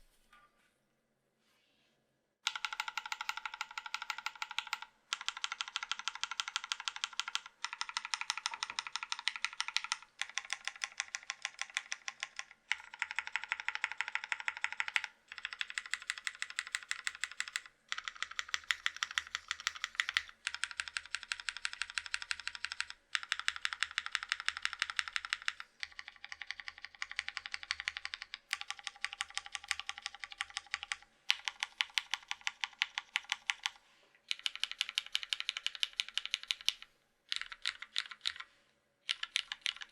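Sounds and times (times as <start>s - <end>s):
fast mechanical keyboard typing: 2.4s - 38.5s, 39.1s - 39.9s.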